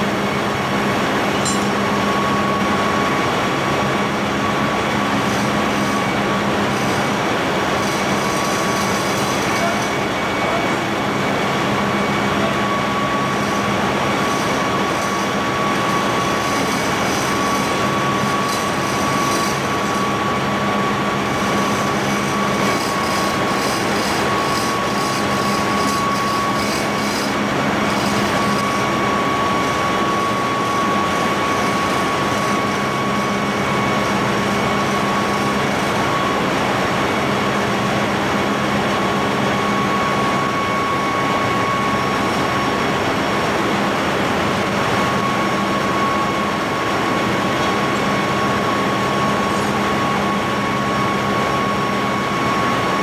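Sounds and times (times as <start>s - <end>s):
engine-room machinery rumble: 0.0s - 53.0s
steady high whine: 0.0s - 53.0s.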